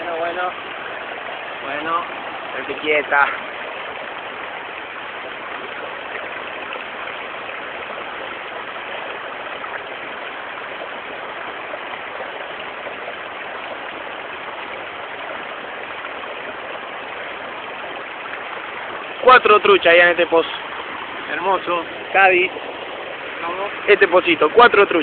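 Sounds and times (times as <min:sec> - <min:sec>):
river water running over rocks: 0:00.0 - 0:25.0.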